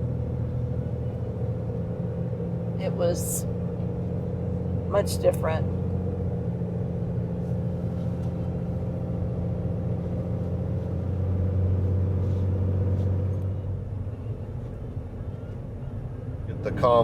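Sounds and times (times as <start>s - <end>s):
road noise inside cab: 0.0s - 17.0s
vehicle engine drone: 0.0s - 17.0s.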